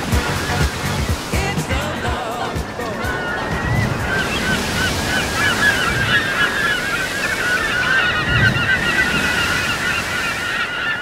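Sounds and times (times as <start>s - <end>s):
rushing surf: 0.0s - 11.0s
flock of birds squawking: 0.1s - 11.0s.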